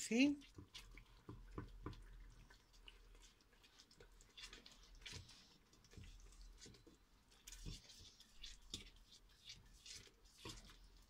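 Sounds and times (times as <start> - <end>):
spoon stirring sauce in pot: 0.0 - 11.0.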